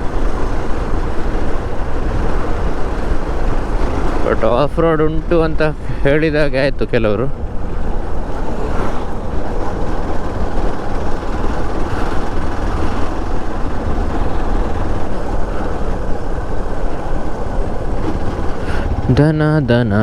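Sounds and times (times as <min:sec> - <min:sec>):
motorcycle engine running: 0:00.0 - 0:06.2, 0:07.3 - 0:20.0
wind noise on microphone: 0:00.0 - 0:20.0.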